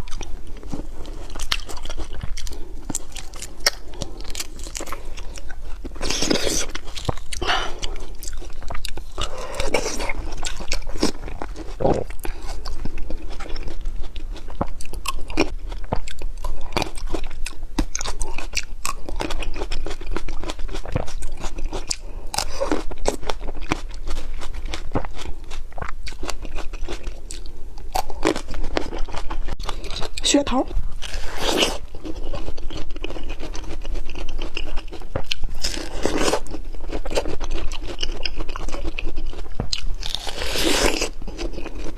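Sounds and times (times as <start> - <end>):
crunchy bites and chewing: 0.0 - 41.9.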